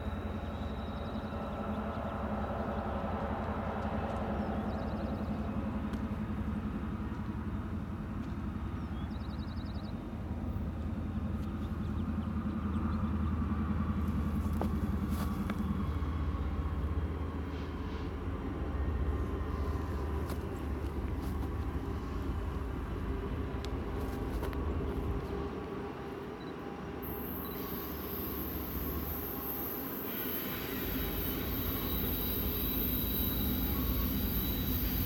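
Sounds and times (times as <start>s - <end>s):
distant diesel locomotives rumbling: 0.0s - 35.0s.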